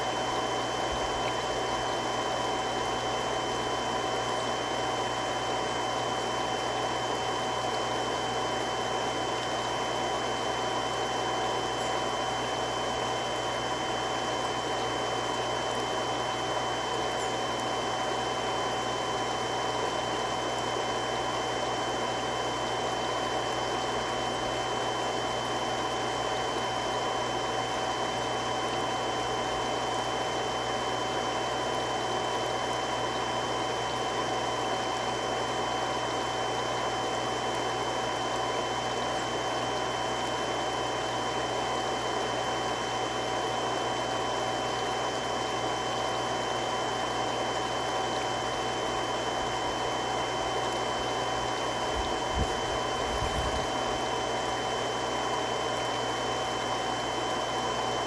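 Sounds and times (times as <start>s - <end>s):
water pump running: 0.0s - 58.0s.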